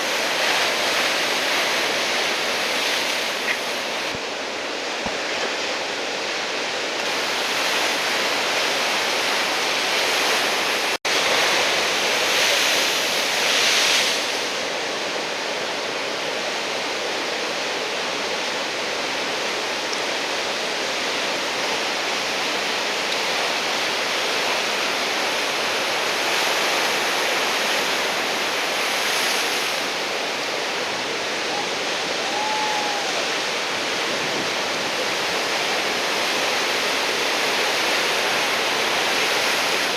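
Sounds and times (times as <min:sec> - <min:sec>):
surf breaking and washing in: 0:00.0 - 0:39.9.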